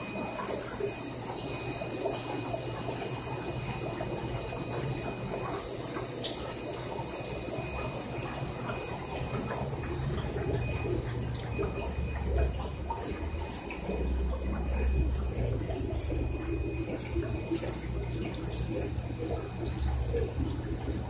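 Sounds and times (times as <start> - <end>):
aquarium pump humming and rushing: 0.0 - 21.0.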